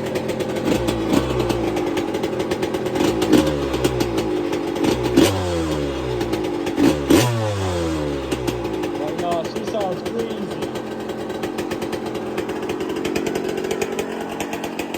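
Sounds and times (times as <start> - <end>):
two-stroke engine revving: 0.0 - 14.9.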